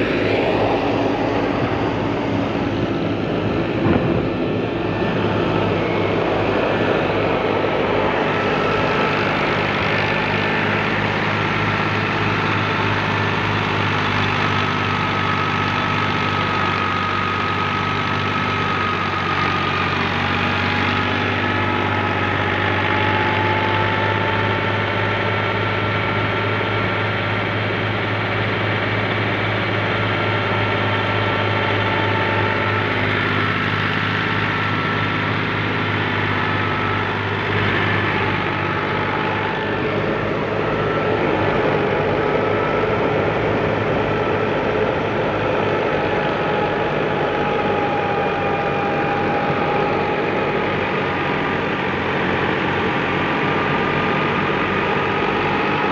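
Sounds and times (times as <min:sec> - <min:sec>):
thresher machinery whining: 0:00.0 - 0:55.9
tractor diesel engine running: 0:00.0 - 0:55.9.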